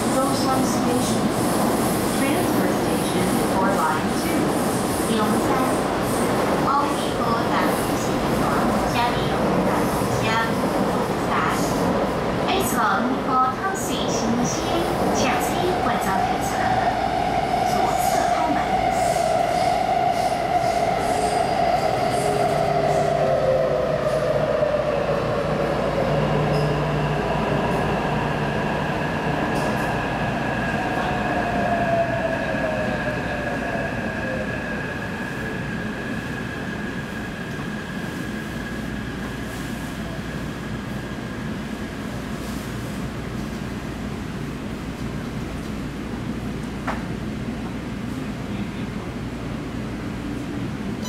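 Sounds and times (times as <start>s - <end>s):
subway car running noise: 0.0s - 51.0s.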